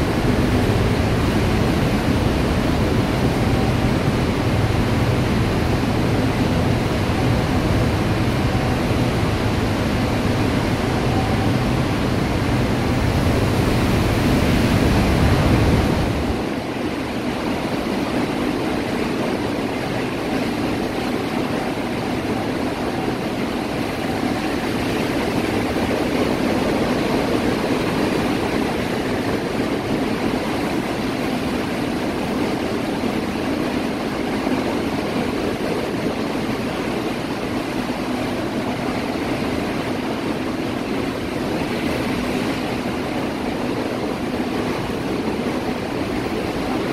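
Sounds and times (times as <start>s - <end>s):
heavy rain and wind: 0.0s - 46.9s.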